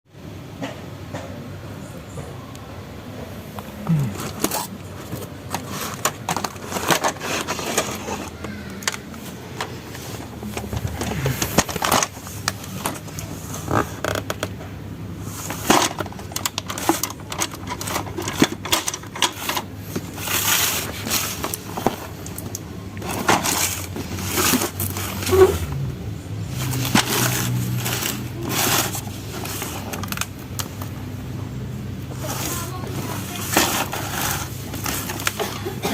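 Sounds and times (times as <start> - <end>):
plastic toys clattering: 3.5 - 35.9.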